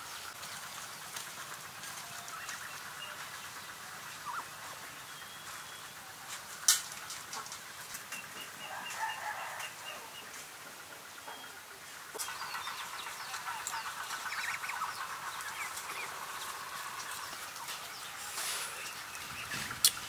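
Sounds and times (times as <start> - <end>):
poultry calling: 0.0 - 6.3, 7.3 - 20.0.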